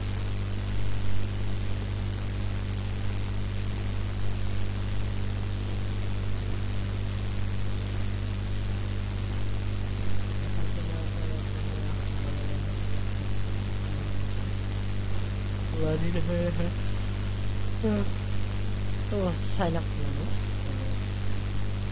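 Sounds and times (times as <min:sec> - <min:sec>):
constant hiss: 0:00.0 - 0:21.9
mains hum: 0:00.0 - 0:21.9.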